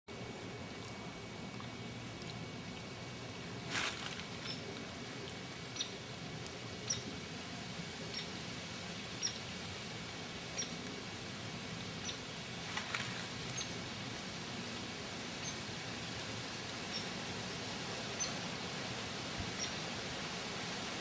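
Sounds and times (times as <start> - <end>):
rippling water: 0.1 - 21.0
rustle: 0.1 - 21.0
wind: 0.1 - 21.0.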